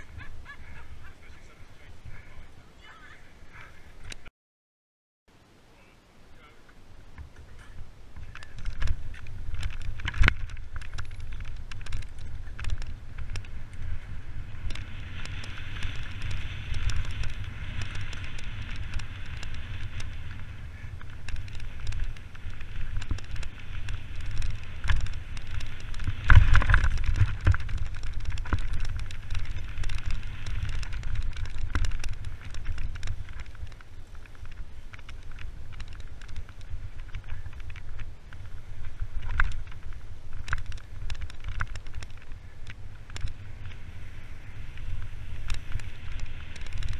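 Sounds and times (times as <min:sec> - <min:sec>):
bike tyres on dirt: 0:00.0 - 0:04.3, 0:05.8 - 0:46.9
wind rumbling on microphone: 0:00.0 - 0:04.3, 0:05.4 - 0:46.9
bike chain and frame rattling: 0:07.2 - 0:46.9.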